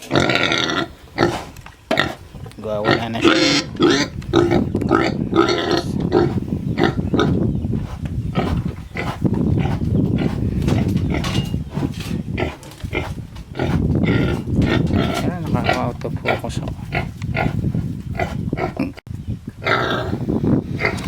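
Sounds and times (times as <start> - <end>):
pigs squealing grunts: 0.0 - 2.2, 2.8 - 7.4, 8.3 - 17.6, 18.2 - 19.0
pigs grunting and chomping food: 0.0 - 19.0.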